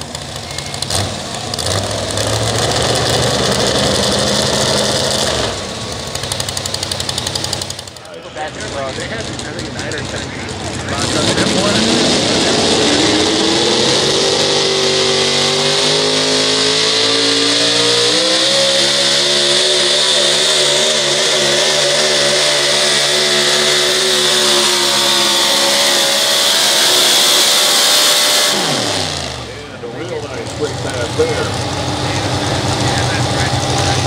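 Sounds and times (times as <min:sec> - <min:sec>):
truck engine revving under load: 0:00.0 - 0:34.0.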